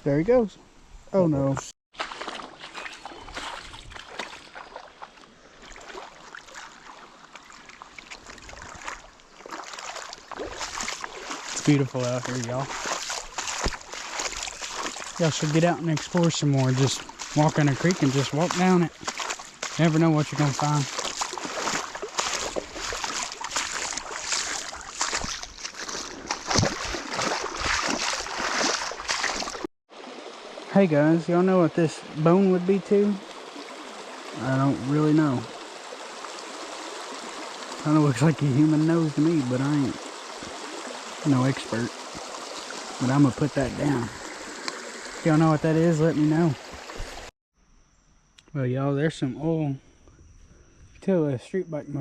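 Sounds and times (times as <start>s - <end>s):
creek water splashing: 1.9s - 47.3s.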